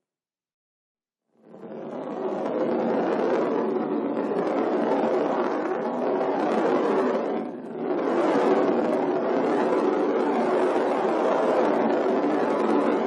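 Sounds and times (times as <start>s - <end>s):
marble rolling: 1.6s - 13.0s.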